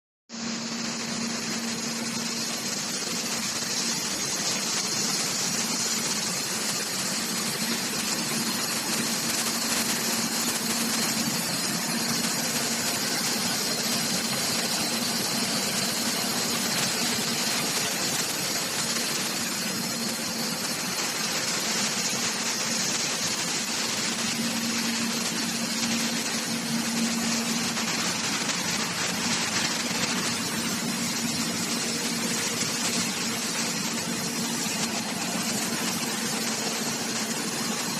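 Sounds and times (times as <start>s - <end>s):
constant hum: 0.4s - 37.9s
welding arc hiss: 0.4s - 37.9s.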